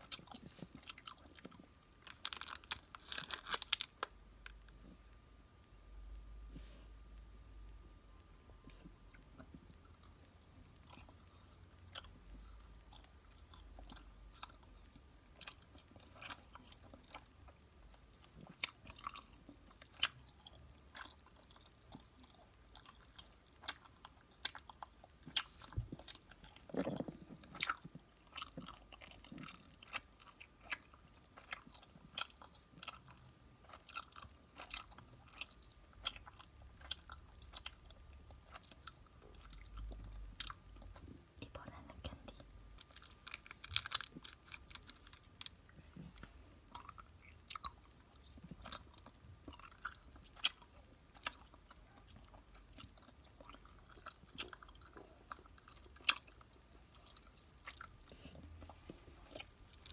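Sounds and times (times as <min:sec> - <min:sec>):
chewing crunchy snack: 0:00.0 - 0:05.2, 0:08.6 - 0:59.9.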